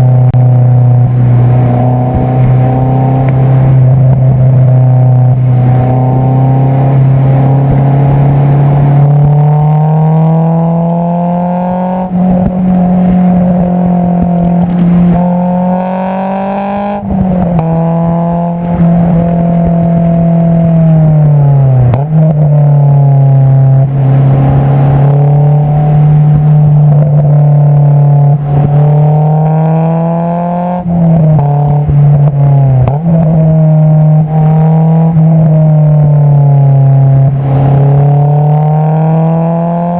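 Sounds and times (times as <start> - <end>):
loud car engine accelerating: 0.0 - 39.9.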